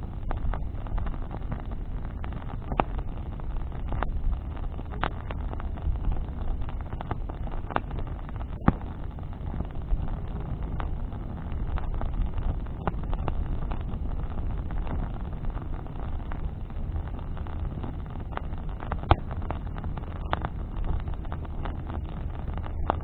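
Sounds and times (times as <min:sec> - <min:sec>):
bonfire crackling: 0:00.0 - 0:23.0
fire pops and snaps: 0:00.0 - 0:23.0
low fire rumble: 0:00.0 - 0:23.0.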